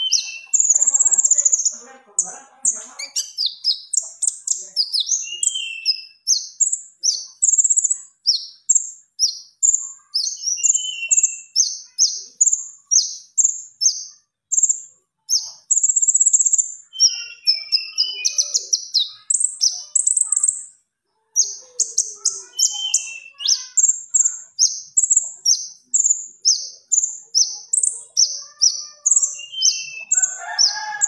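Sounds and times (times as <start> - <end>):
songbird singing: 0.0 - 31.0.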